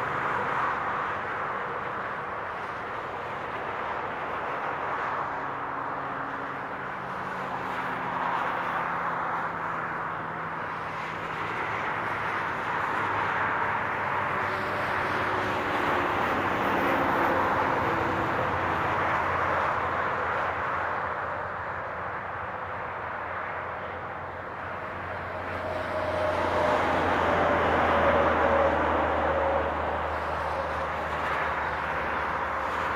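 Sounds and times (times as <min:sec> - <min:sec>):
tyre noise of passing vehicles: 0:00.0 - 0:32.9.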